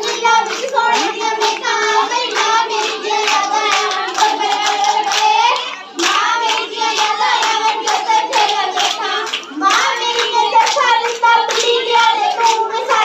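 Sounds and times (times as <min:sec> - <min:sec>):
girls singing folk song: 0:00.0 - 0:13.0
rhythmic hand clapping: 0:00.0 - 0:13.0.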